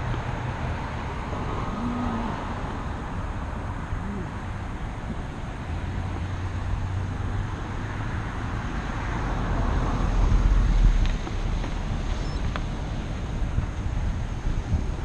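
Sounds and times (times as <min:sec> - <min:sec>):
car passing close: 0:00.0 - 0:14.7
low traffic rumble: 0:00.0 - 0:15.0.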